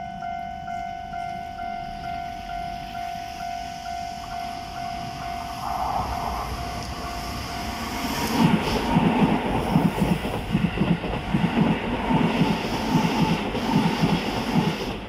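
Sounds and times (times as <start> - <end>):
crossing alarm steady tone: 0.0 - 15.0.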